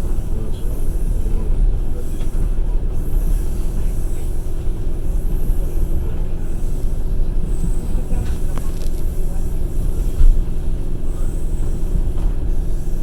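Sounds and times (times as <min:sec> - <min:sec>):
train carriage rumbling: 0:00.0 - 0:13.0.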